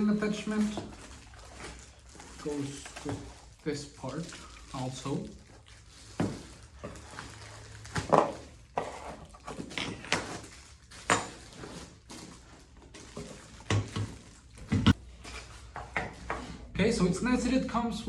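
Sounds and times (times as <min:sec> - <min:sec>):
parts and packaging being handled: 0:00.0 - 0:16.7.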